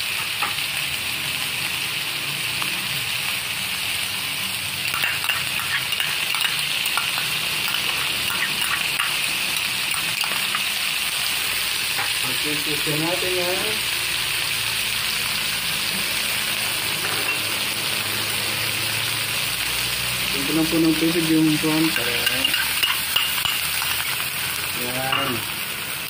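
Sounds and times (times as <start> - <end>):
chicken sizzling in a wok: 0.0 - 26.0.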